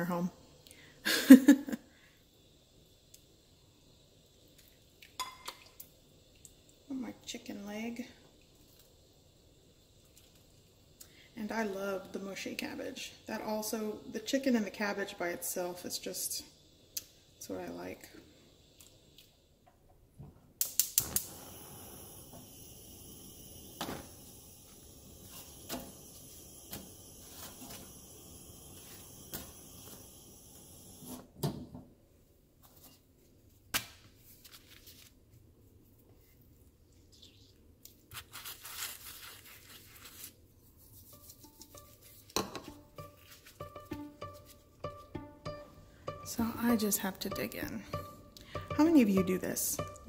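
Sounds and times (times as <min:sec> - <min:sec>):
faint steady hiss: 0:00.0 - 0:50.0.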